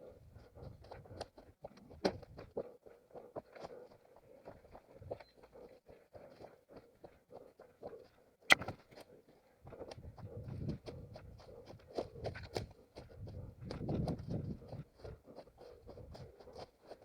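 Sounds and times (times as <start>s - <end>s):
running footsteps on forest ground: 0.0s - 17.0s.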